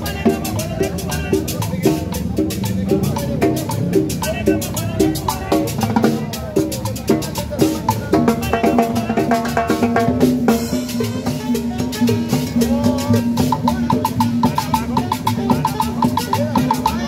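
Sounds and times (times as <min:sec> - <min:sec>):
congas and timbales: 0:00.0 - 0:17.0
salsa band playing: 0:00.0 - 0:17.0.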